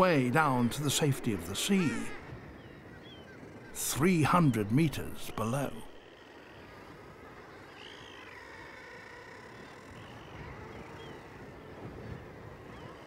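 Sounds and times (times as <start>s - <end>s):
faint seabird calls: 0.0s - 13.0s.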